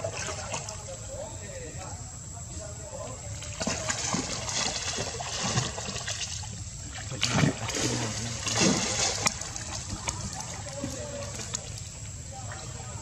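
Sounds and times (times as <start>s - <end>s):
water splashing and lapping: 0.0s - 1.0s, 3.2s - 13.0s.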